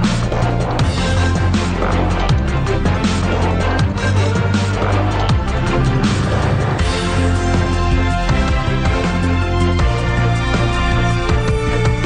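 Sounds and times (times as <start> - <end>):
loud music with bass: 0.0 - 12.0.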